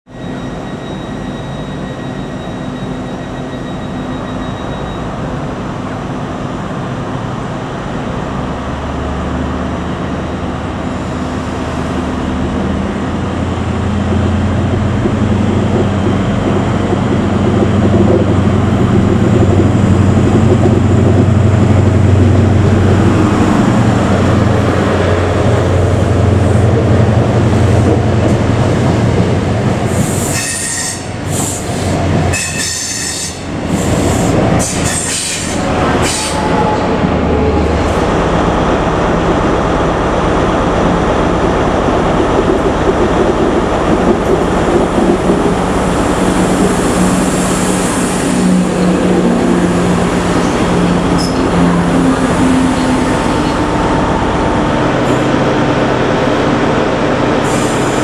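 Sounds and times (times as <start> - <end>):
diesel train engine: 0.1 - 58.0.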